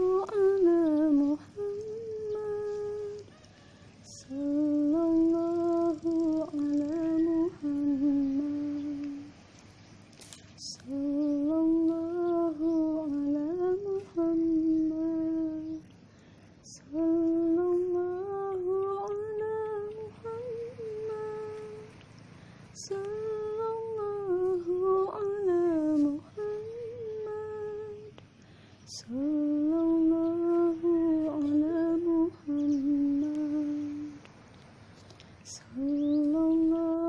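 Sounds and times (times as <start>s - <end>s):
woman humming a melody: 0.0s - 9.4s, 10.6s - 15.9s, 16.6s - 22.0s, 22.8s - 28.2s, 28.9s - 34.3s, 35.4s - 37.0s.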